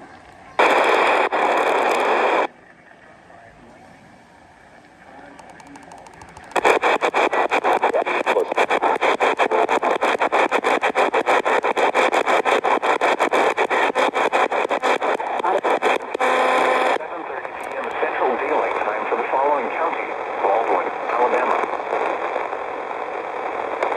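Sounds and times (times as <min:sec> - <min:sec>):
faint radio static: 0:00.0 - 0:23.9.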